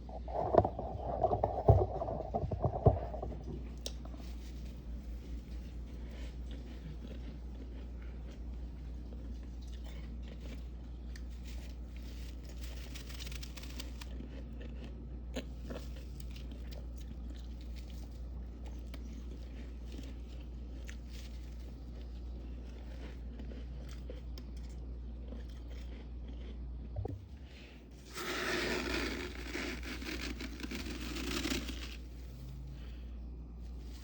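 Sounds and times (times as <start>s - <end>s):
chewing crunchy frost: 0.0s - 27.2s, 28.0s - 33.0s
steady low hum: 0.0s - 34.0s.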